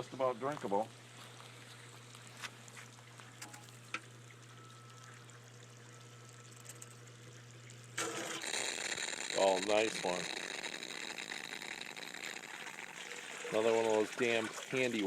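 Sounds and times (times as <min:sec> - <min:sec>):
faint water flow: 0:00.0 - 0:15.0.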